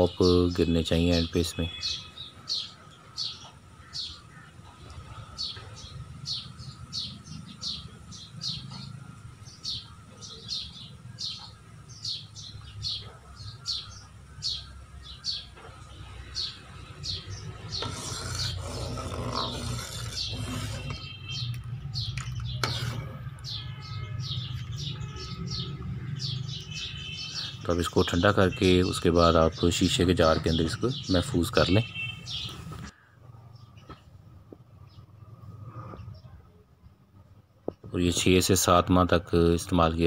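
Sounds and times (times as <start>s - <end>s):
bird chirping: 0.0s - 34.2s.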